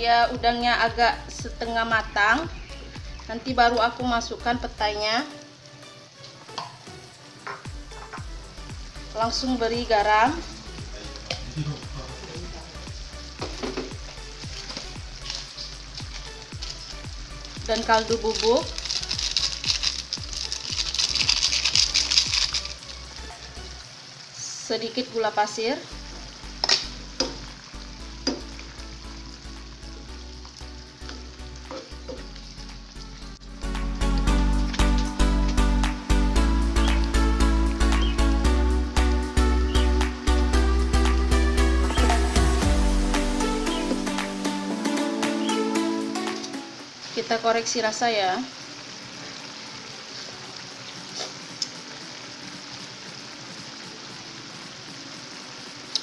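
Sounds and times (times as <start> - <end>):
food sizzling in a frying pan: 0.2 - 56.0.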